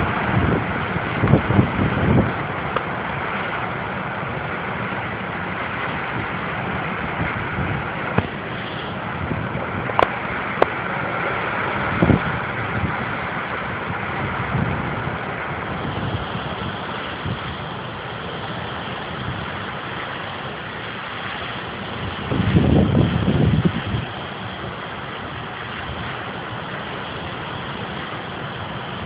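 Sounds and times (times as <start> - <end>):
strong wind through trees: 0.0 - 29.0
wind buffeting microphone: 0.0 - 29.0.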